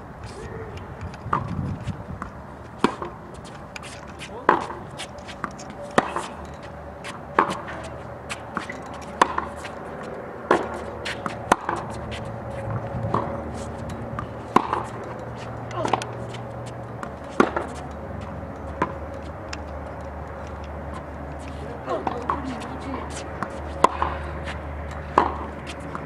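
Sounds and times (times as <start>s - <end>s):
tennis ball bouncing: 1.1s - 26.0s
racket striking tennis ball: 1.3s - 26.0s.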